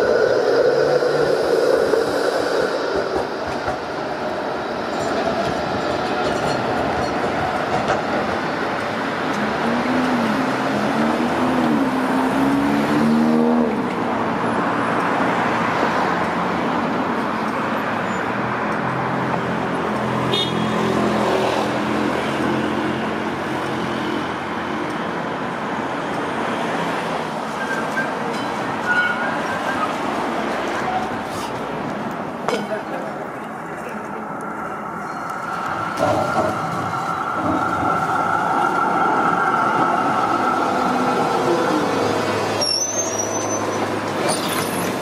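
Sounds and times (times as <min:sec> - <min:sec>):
road traffic: 0:00.0 - 0:45.0.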